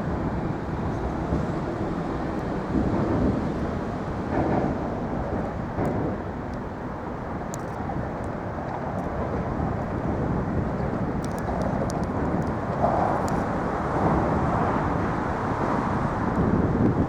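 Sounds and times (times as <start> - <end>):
traffic rumble on bridge: 0.0 - 17.0.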